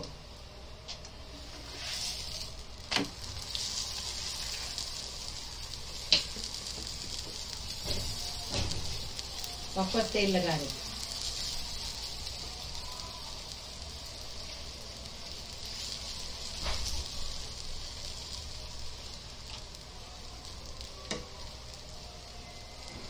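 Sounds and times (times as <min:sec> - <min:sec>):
oil sizzling in a pan: 0:01.2 - 0:23.0.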